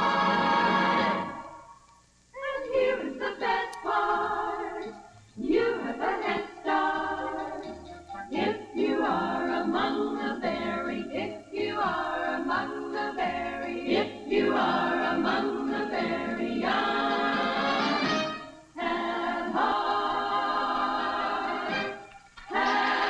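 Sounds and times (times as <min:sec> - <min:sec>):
women's chorus singing: 0:00.0 - 0:01.8, 0:02.4 - 0:23.0.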